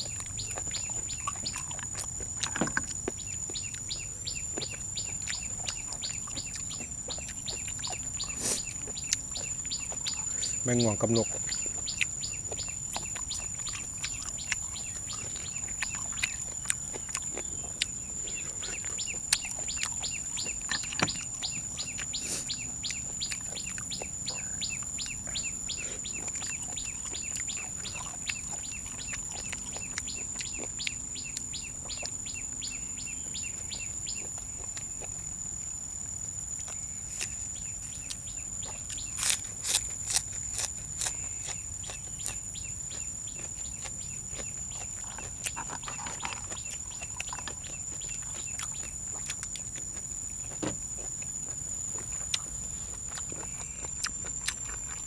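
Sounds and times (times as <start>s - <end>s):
birds chirping: 0.0s - 55.0s
insects droning: 0.0s - 55.0s.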